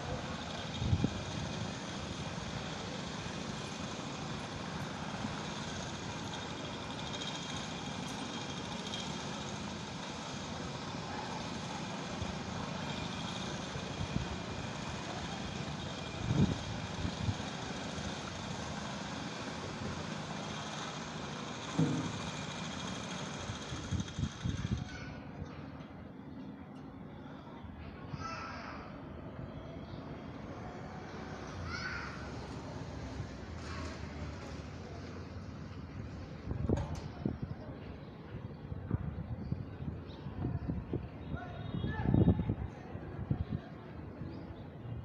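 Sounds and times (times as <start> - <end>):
construction machinery running: 0.0 - 28.1, 29.0 - 45.0.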